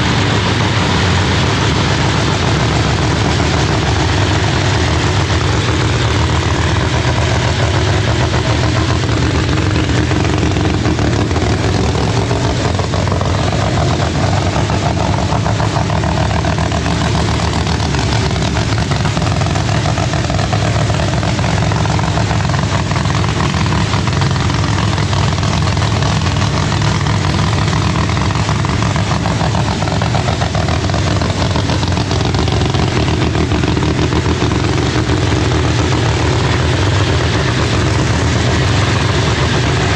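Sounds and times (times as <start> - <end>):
drag racing engine idling: 0.0 - 39.9.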